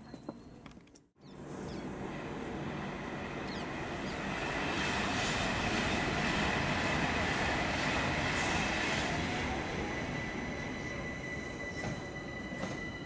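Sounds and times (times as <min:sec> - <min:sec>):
electric train running: 0:01.4 - 0:13.0.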